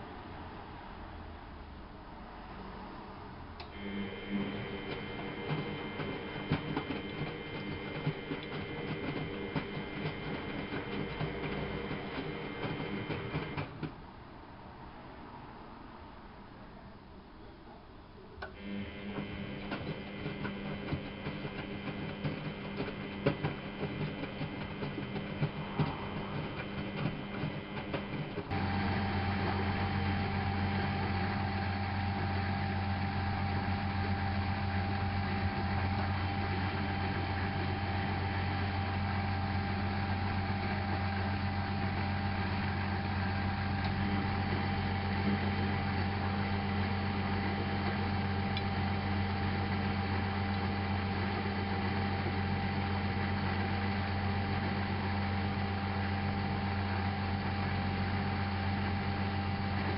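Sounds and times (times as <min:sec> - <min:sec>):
washing machine hum: 0:02.3 - 0:15.4, 0:18.4 - 0:59.9
motor humming with held tone: 0:03.6 - 0:13.7, 0:18.4 - 0:59.9.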